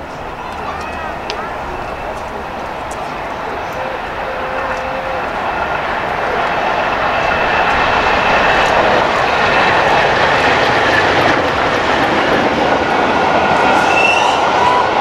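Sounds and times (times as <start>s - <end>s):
steam train passing: 0.0s - 15.0s.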